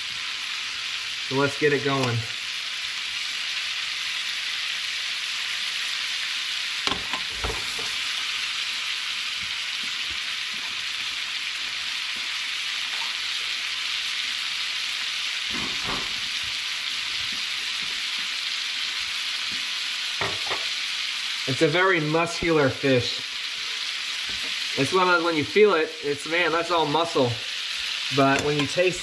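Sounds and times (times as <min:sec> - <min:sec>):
fish sizzling in a pan: 0:00.0 - 0:29.0.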